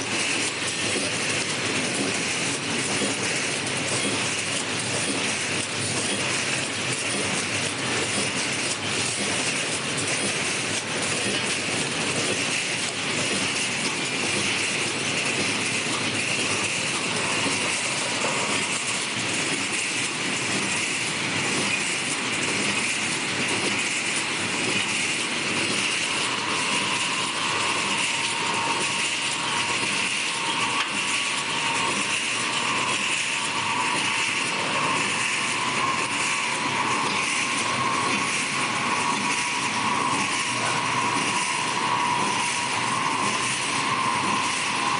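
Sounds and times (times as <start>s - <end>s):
welding machine clatter: 0.0s - 44.9s.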